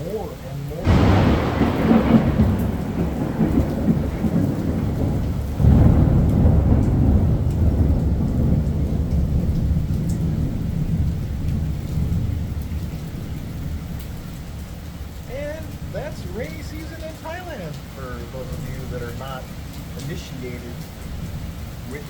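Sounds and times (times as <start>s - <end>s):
rain: 0.0s - 22.0s
thunder rumbling: 0.0s - 22.0s
thunder clap: 0.8s - 22.0s.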